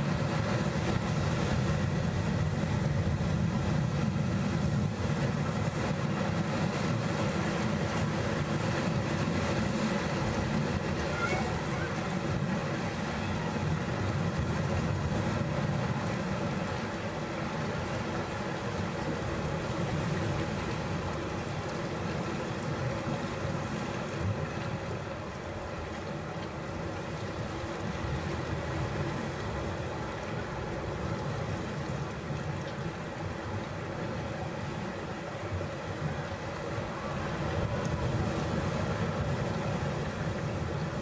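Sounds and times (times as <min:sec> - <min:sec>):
sea waves washing over rocks: 0:00.0 - 0:41.0.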